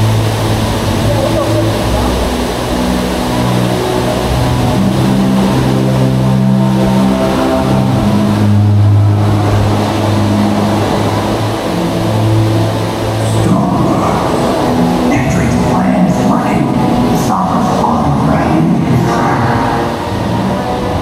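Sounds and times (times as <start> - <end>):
low droning tones: 0.0 - 21.0
steady rushing background: 0.0 - 21.0.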